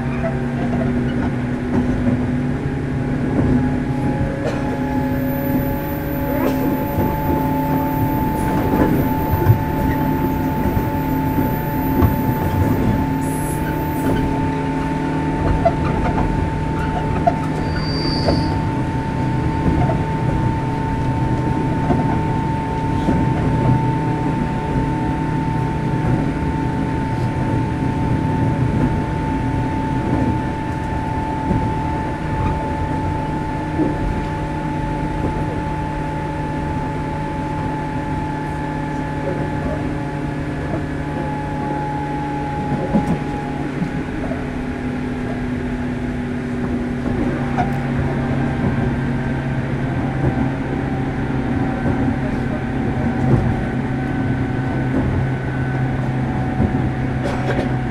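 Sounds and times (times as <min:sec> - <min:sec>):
train motor hum: 0:00.0 - 0:57.9
wheel and track rumble: 0:00.0 - 0:57.9.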